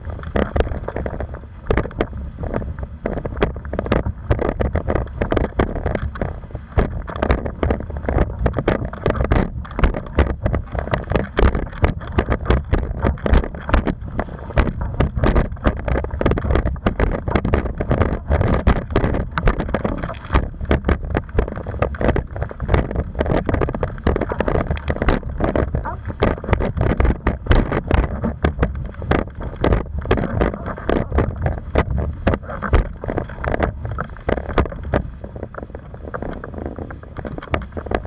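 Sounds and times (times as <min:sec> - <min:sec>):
board hull knocking on water: 0:00.0 - 0:38.0
wind rushing over microphone: 0:00.0 - 0:38.0.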